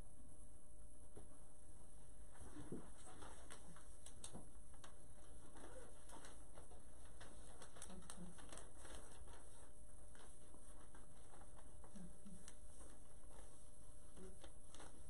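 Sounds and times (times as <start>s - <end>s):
steady low hum: 0.0s - 15.0s
hands and clothing rustling: 2.1s - 15.0s.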